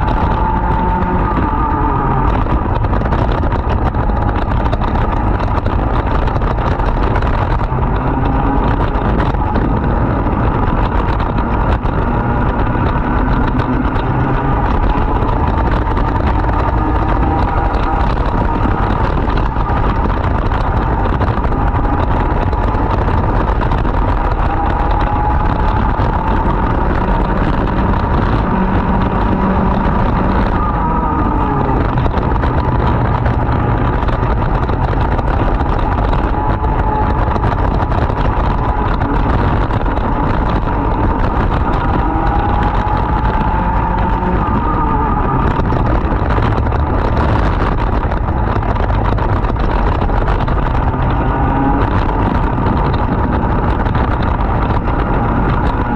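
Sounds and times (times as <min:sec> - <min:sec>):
kart engine running hard: 0:00.0 - 0:55.9.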